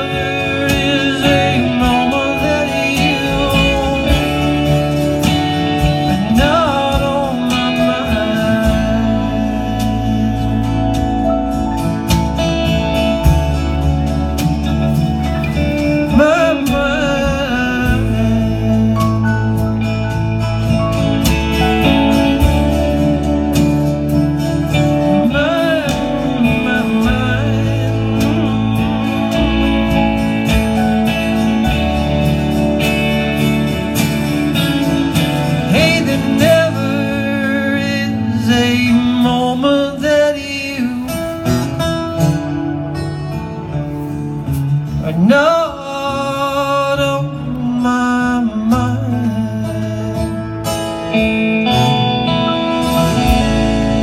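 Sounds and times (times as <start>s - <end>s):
live band playing country-folk: 0.0s - 54.0s.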